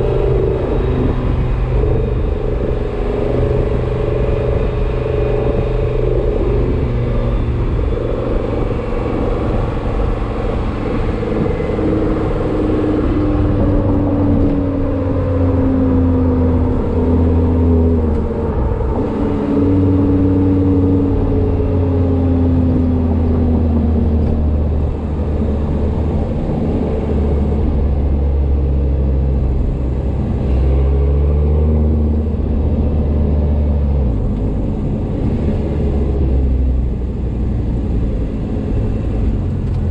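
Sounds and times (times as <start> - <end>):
car engine drone: 0.0 - 39.9
whine gliding in pitch: 0.0 - 39.9.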